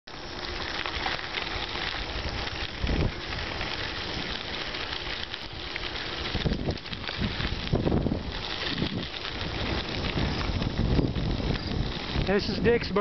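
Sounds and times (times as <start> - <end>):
wind buffeting microphone: 1.0 - 13.0.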